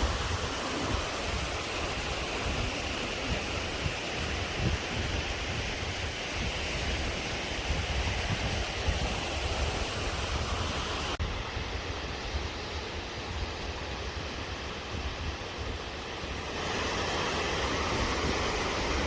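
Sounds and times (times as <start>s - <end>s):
low rumble of water: 0.0s - 19.0s
waterfall rushing: 0.0s - 19.0s.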